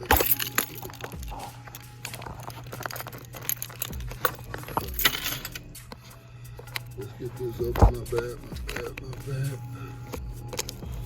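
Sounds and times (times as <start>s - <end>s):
packaging clicks and crinkles: 0.0s - 11.0s
steady low hum: 0.0s - 11.0s.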